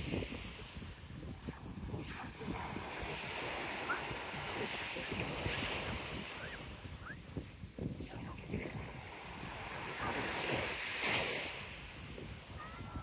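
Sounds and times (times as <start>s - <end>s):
surf washing up sand: 0.0s - 13.0s
wind gusting on microphone: 0.0s - 13.0s.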